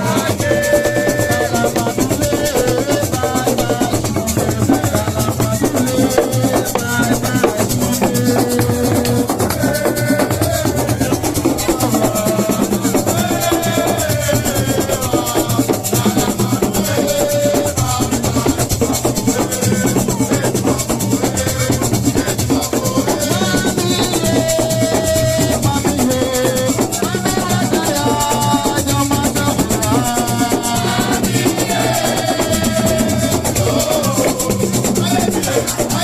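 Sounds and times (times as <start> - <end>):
hand drums: 0.0 - 36.0
shaker: 0.0 - 36.0.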